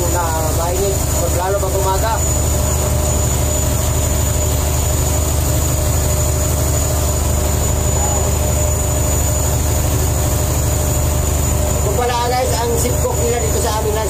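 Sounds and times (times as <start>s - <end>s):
boat engine droning: 0.0s - 14.0s
thin high whine: 0.0s - 14.0s.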